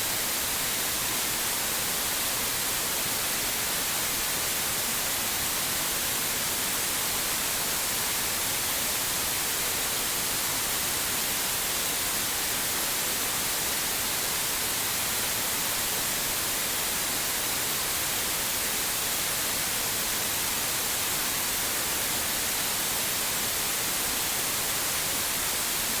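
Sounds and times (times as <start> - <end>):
white noise hiss: 0.0 - 26.0.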